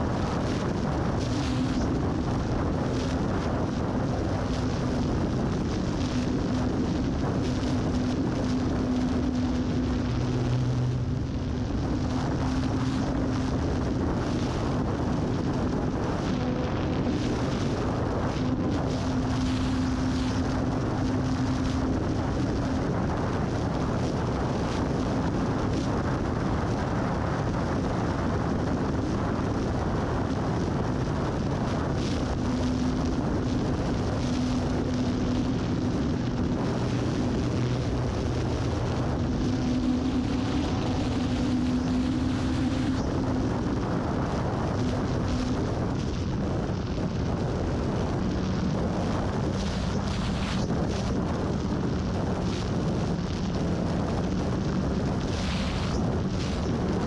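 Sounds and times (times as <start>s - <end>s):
electric motor and propeller hum: 0.0s - 57.0s
wind rushing: 0.0s - 57.0s.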